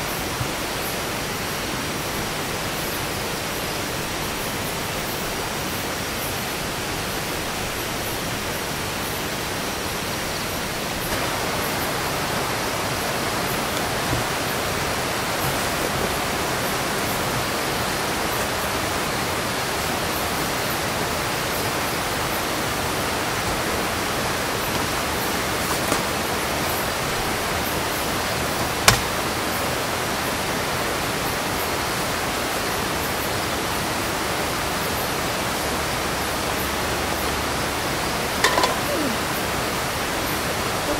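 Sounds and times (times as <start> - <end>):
rocky river flowing: 0.0 - 40.9.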